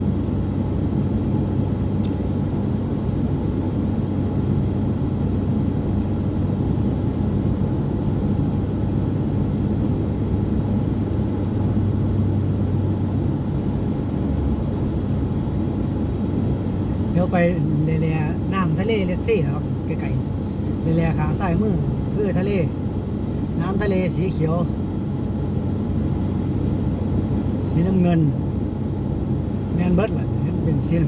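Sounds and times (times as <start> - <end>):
constant low hum: 0.0 - 31.0
vehicle engine and road rumble: 0.0 - 31.0.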